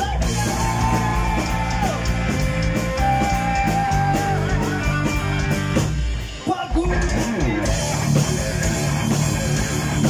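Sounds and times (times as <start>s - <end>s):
heavy metal band playing live: 0.0s - 10.0s.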